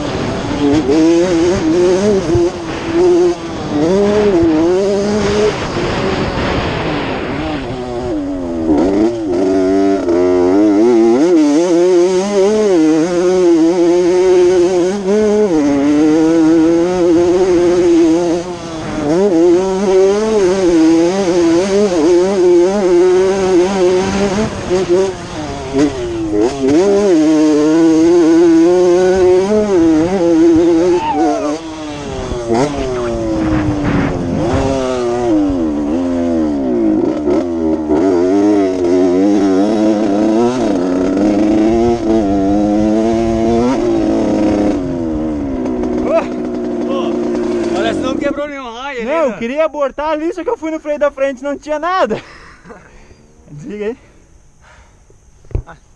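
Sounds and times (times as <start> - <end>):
motorcycle engine revving: 0.0 - 55.8.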